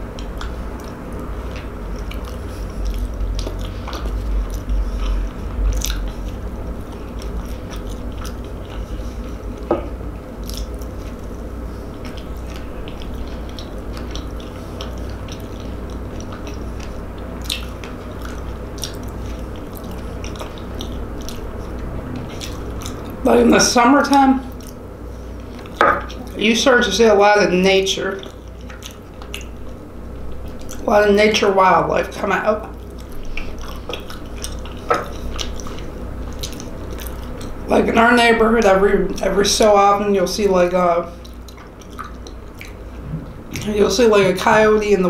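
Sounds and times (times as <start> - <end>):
person chewing with wet smacks: 0.0 - 38.0, 40.6 - 45.0
low steady hum: 0.0 - 45.0.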